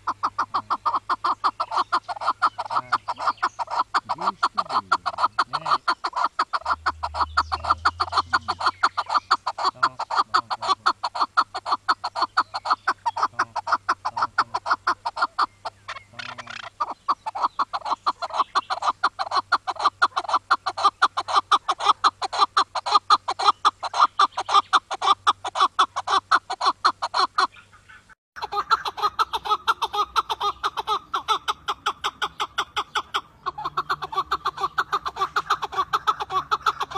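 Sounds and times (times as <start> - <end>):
partridge clucking calls: 0.0 - 36.9.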